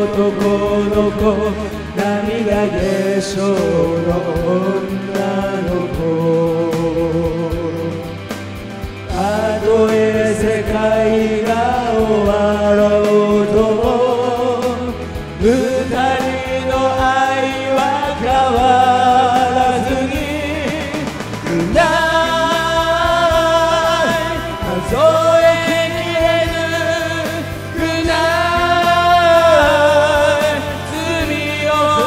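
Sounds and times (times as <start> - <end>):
people singing rock song: 0.0 - 8.0, 9.0 - 32.0
karaoke backing track: 0.0 - 32.0.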